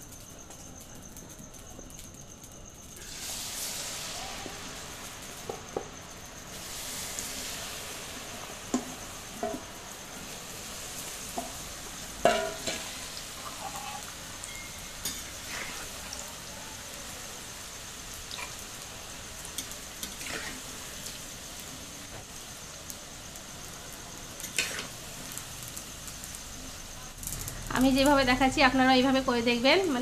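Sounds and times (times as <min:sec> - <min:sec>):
potatoes sizzling in hot oil: 0:02.9 - 0:30.0.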